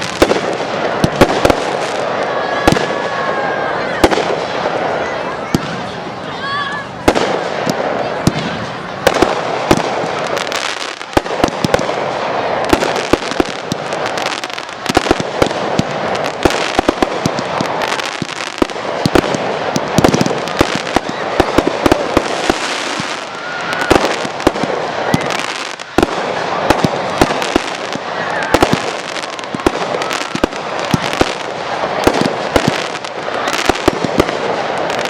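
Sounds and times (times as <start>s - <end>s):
fireworks bangs and crackling bursts: 0.0s - 35.0s.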